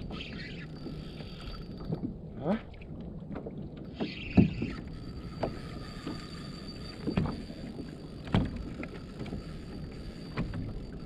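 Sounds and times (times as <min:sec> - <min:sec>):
reel drag whine: 0:00.0 - 0:02.4, 0:03.8 - 0:11.0.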